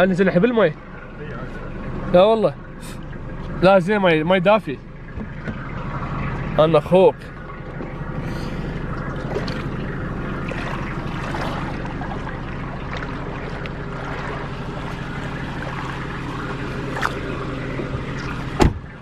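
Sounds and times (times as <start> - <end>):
engine idling: 0.0 - 19.0
water splashing: 0.5 - 19.0.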